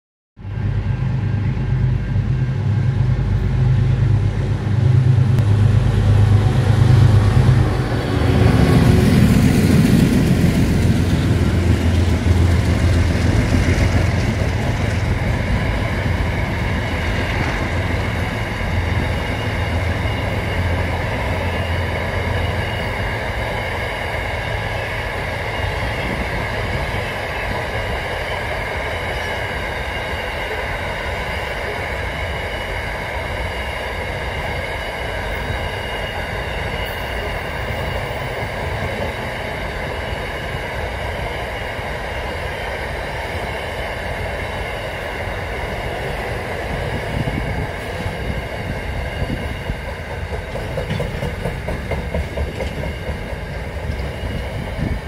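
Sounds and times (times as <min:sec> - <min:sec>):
diesel locomotive hum: 0:00.4 - 0:55.0
wagons rumbling over rails: 0:00.4 - 0:55.0.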